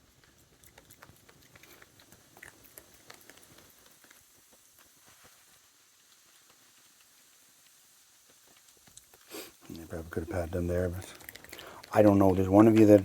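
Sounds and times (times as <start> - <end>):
animal chewing peanuts: 0.0 - 13.0.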